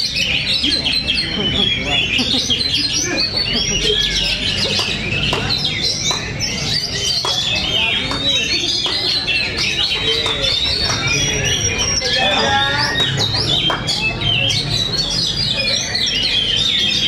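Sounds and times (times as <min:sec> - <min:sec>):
birds singing in chorus: 0:00.0 - 0:17.0.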